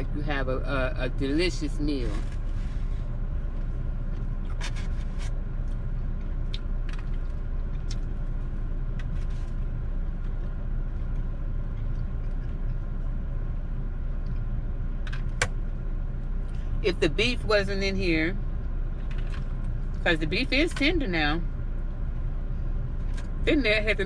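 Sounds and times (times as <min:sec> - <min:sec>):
car engine rumble: 0:00.0 - 0:24.0.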